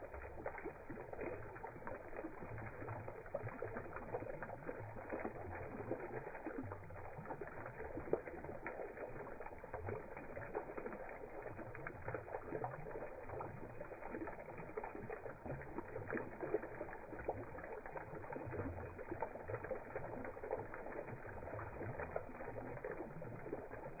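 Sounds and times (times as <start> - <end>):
fountain water splashing and dripping: 0.0 - 24.0.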